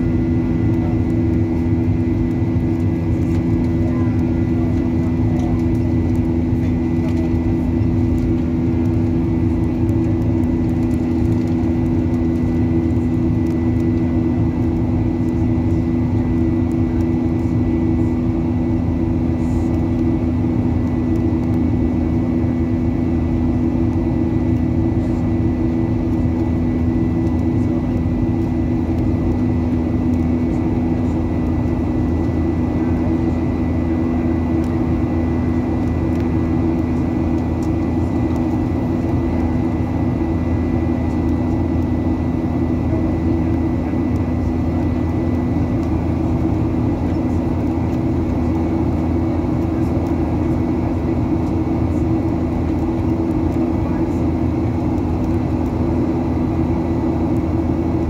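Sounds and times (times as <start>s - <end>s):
jet engine drone: 0.0s - 58.0s.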